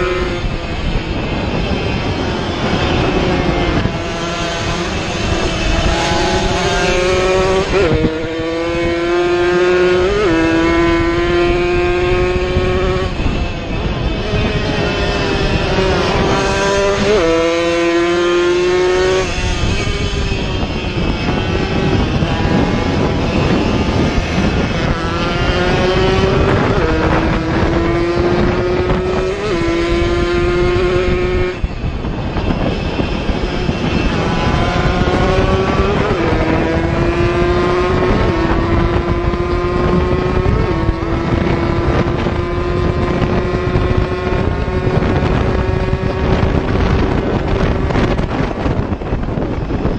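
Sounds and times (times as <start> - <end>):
racing two-stroke motorcycle engines: 0.0 - 49.9.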